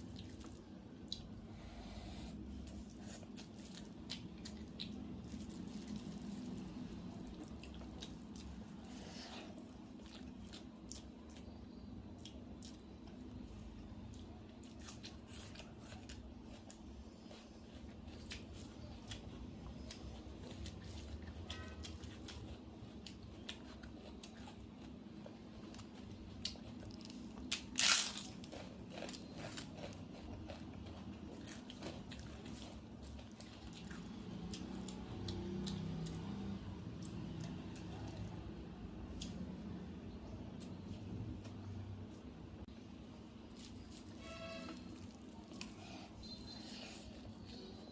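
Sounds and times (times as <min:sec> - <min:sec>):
chewing and wet squishing: 0:00.0 - 0:01.6, 0:02.5 - 0:39.6, 0:43.5 - 0:47.9
steady low hum: 0:00.0 - 0:47.9.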